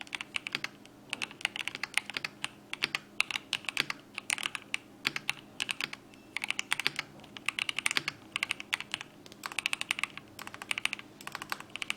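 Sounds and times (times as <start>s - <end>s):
mechanical keyboard typing: 0.0s - 11.9s.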